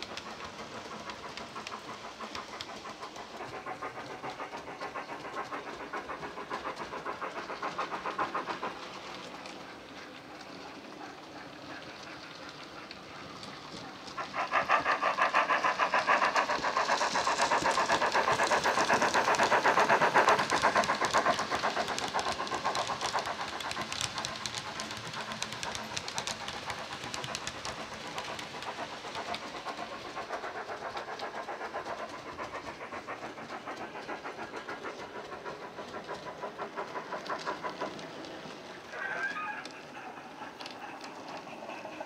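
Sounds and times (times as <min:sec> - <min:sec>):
model locomotive steam chuffs: 0:00.0 - 0:42.0.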